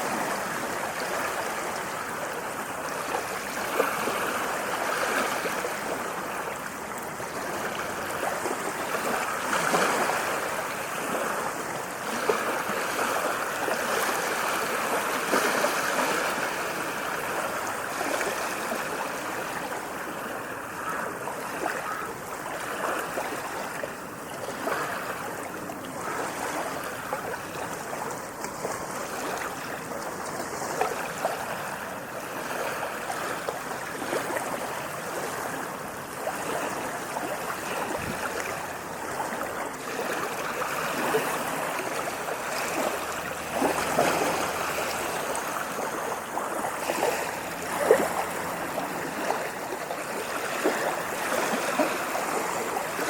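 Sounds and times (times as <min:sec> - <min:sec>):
water splashing and gurgling: 0:00.0 - 0:53.0.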